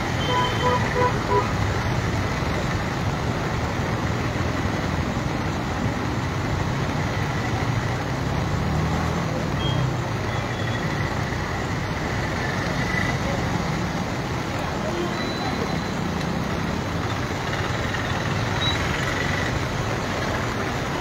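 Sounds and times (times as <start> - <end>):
flooded river rushing: 0.0 - 21.0
heavy rain: 0.0 - 21.0
vehicle engines running: 0.0 - 21.0.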